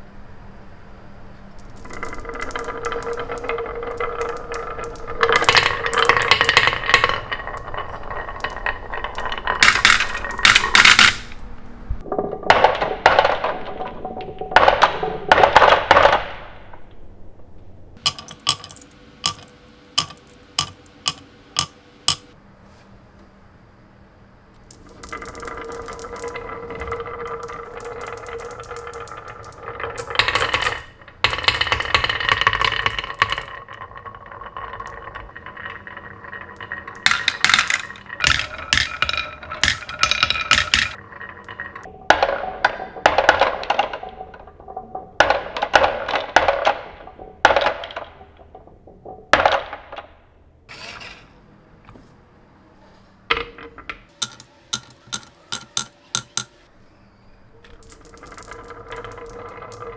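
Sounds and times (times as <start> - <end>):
marbles rolling and clattering: 1.4 - 16.9, 18.0 - 22.4, 24.6 - 51.3, 53.3 - 59.9.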